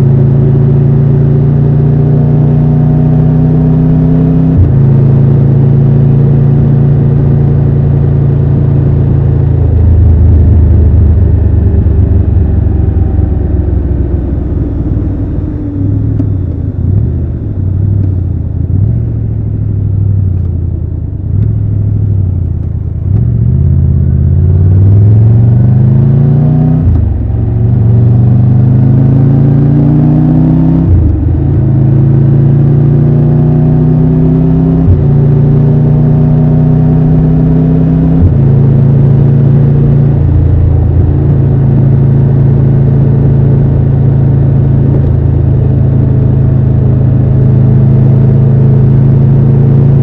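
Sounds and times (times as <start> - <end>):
motorcycle engine revving through gears: 0.0 - 50.0.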